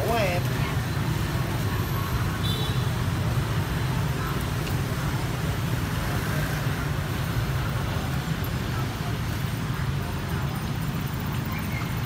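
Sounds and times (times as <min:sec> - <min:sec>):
motorbikes passing: 0:00.0 - 0:12.0
street traffic rumble: 0:00.0 - 0:12.0.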